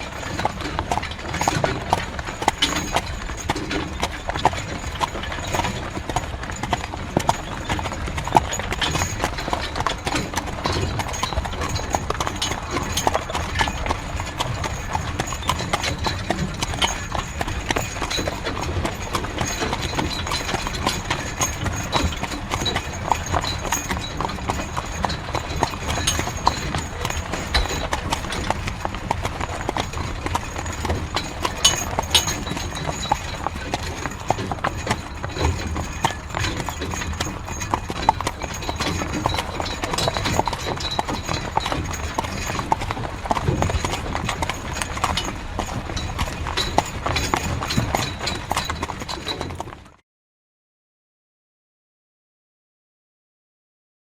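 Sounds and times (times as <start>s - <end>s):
carriage wheels rolling and creaking: 0.0s - 50.0s
hooves clip-clopping: 0.0s - 50.0s.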